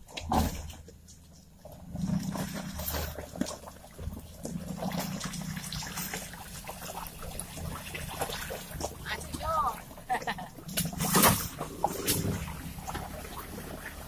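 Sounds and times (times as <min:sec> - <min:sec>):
tyres splashing through muddy water: 0:00.0 - 0:14.0.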